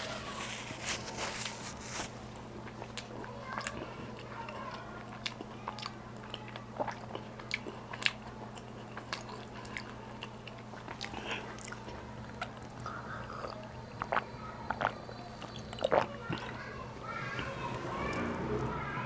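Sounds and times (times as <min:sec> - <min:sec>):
steady low hum: 0:00.0 - 0:19.0
chewing and biting mouth sounds: 0:02.4 - 0:18.7.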